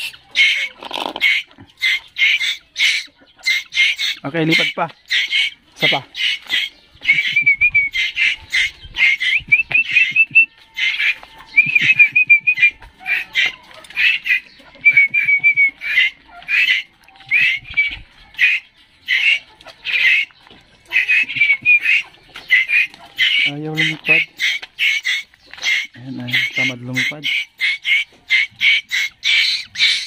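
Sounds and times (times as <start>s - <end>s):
chicks harsh rasping begging calls: 0.0s - 30.0s.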